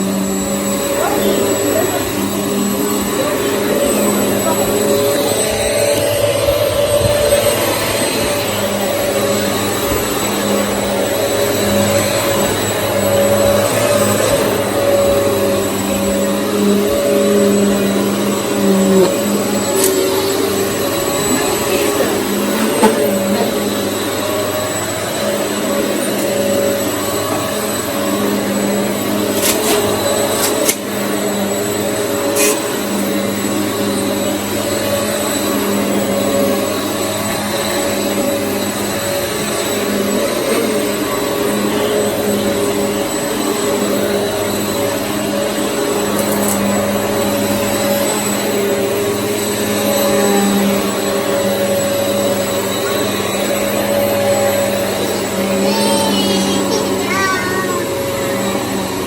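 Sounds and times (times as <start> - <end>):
vacuum cleaner motor drone: 0.0 - 59.0.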